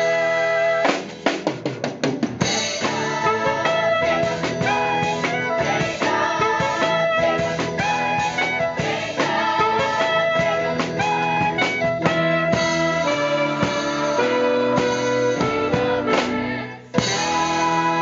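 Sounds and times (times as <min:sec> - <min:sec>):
band with saxophone and keyboard: 0:00.0 - 0:18.0
children's chorus singing: 0:02.7 - 0:11.9, 0:12.7 - 0:18.0.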